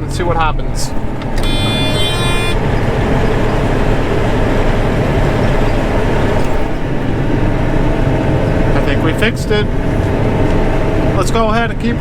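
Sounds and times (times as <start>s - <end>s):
combine harvester drone: 0.0s - 12.0s
high steady tone: 0.9s - 11.6s.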